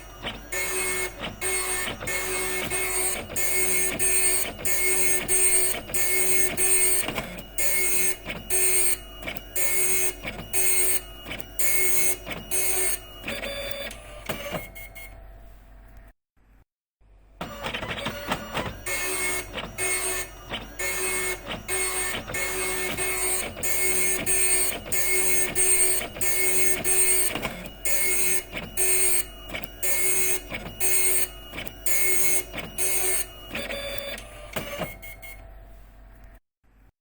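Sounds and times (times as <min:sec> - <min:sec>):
dot matrix printer printing: 0:00.0 - 0:15.4, 0:17.4 - 0:36.1.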